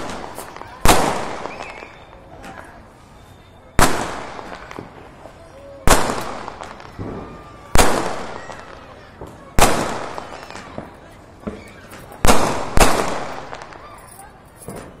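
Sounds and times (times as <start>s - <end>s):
firecracker bangs echoing: 0.0s - 2.7s, 3.7s - 15.0s.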